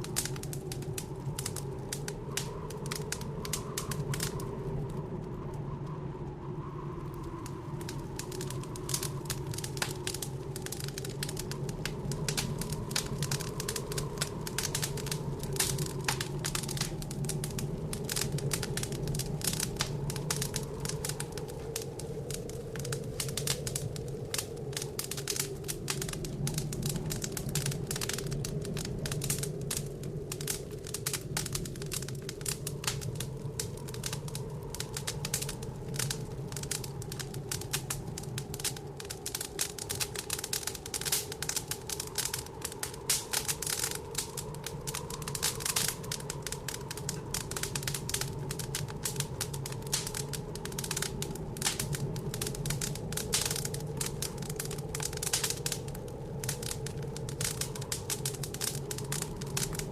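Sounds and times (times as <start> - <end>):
blizzard wind moaning: 0.0 - 59.9
wood fire crackling: 0.0 - 59.9.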